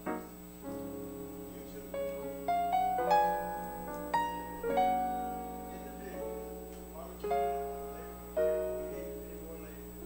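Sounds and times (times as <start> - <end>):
piano playing soft chords: 0.0 - 10.0.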